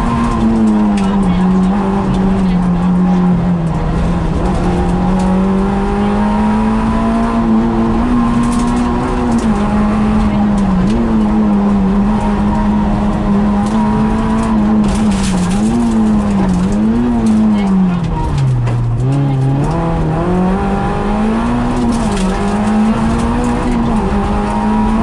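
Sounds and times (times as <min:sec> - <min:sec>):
car engine revving high: 0:00.0 - 0:25.0.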